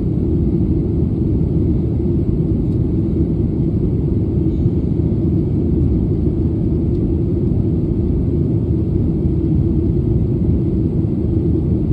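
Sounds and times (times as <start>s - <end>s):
jet engine low rumble: 0.0s - 11.9s.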